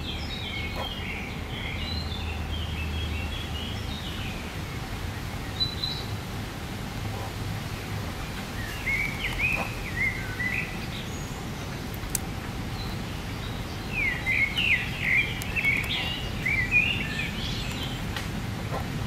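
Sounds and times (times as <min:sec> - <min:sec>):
low background noise: 0:00.0 - 0:19.0
songbird singing: 0:00.0 - 0:19.0.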